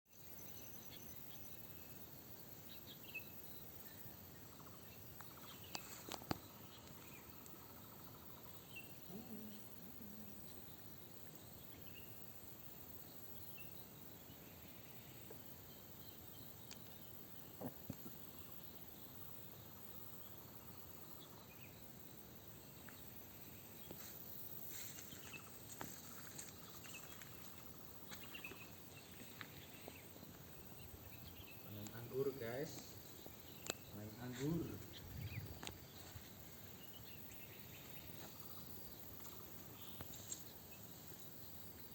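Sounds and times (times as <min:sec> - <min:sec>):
high insect drone: 0:00.1 - 0:41.9.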